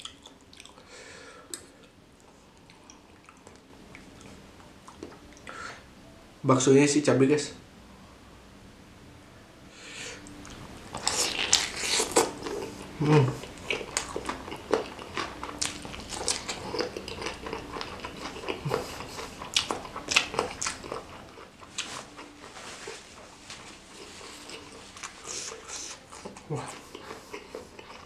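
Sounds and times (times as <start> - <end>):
chewing with mouth clicks: 0.0 - 0.9, 1.5 - 5.5, 10.2 - 28.0.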